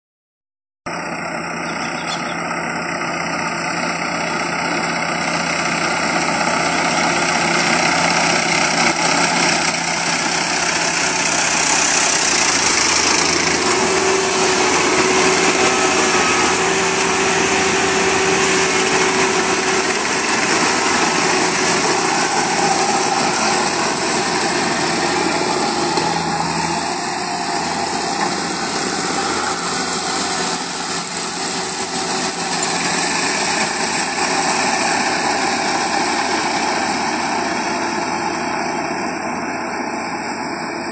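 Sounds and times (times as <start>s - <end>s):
combine harvester drone: 0.9s - 40.9s.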